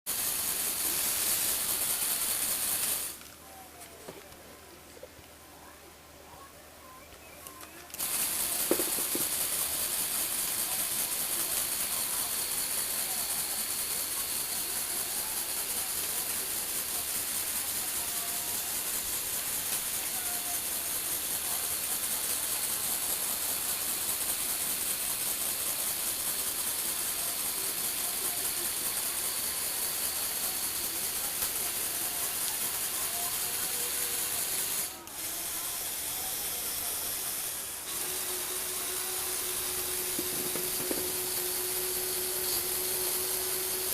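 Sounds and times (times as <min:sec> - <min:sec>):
toy motor and gears whirring: 0:00.1 - 0:03.4, 0:07.4 - 0:43.9.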